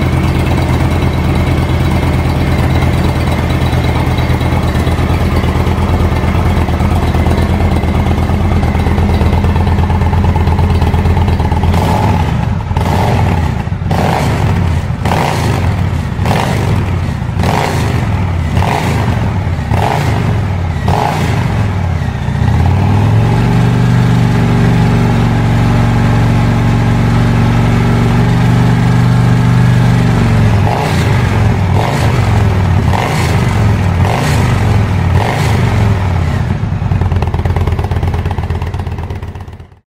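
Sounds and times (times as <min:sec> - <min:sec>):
motorcycle engine revving: 0:00.0 - 0:39.8.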